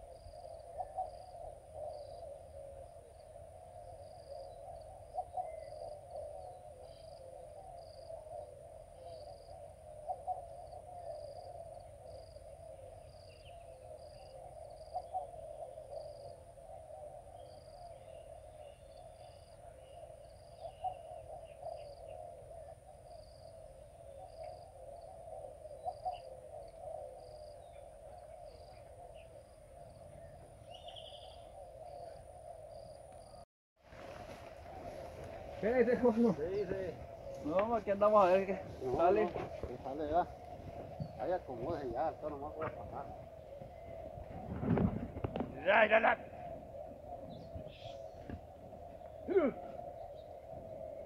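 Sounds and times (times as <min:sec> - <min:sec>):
low hooting call: 0:00.0 - 0:33.4, 0:34.0 - 0:51.0
insect drone: 0:00.0 - 0:51.0.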